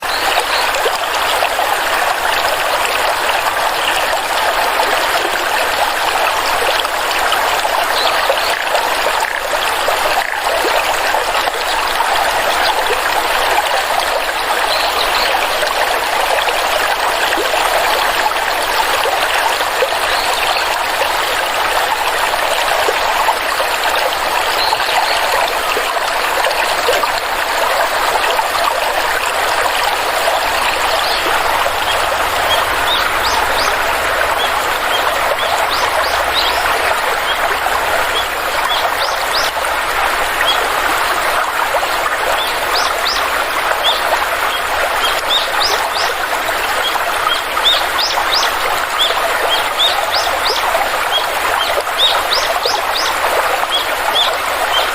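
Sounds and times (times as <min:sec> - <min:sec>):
stream babbling and trickling: 0:00.0 - 0:54.9.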